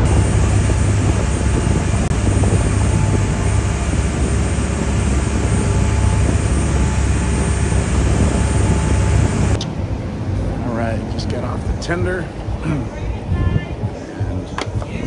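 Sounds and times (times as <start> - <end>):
boat engines droning: 0.0 - 15.0
wind and water rushing: 0.0 - 15.0.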